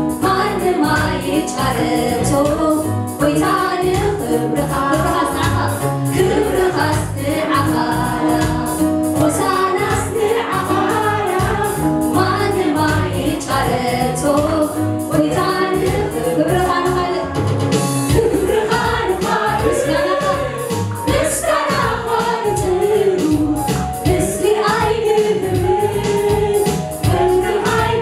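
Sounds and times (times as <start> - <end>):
instrumental backing with beat: 0.0 - 28.0
choir backing singers: 0.2 - 17.3, 18.1 - 28.0
woman singing lead: 0.2 - 17.4, 18.1 - 28.0.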